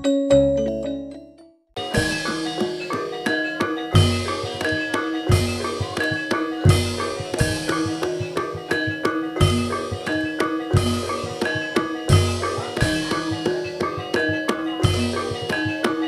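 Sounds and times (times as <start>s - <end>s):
keyed mallet percussion melody: 0.0s - 16.0s.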